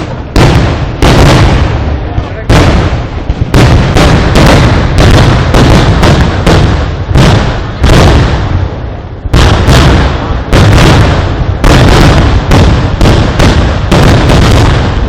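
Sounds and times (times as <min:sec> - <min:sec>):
firework explosions: 0:00.0 - 0:15.0.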